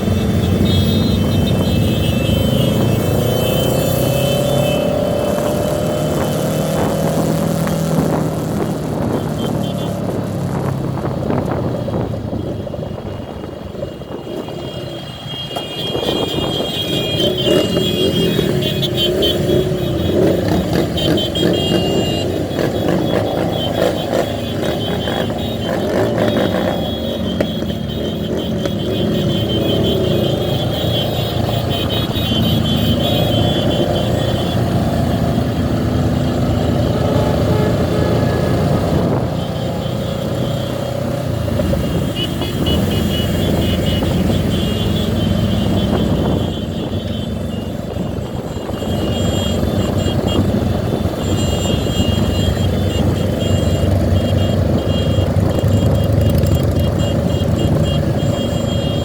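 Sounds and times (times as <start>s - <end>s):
motorcycle engines: 0.0s - 59.0s
traffic: 0.0s - 59.0s.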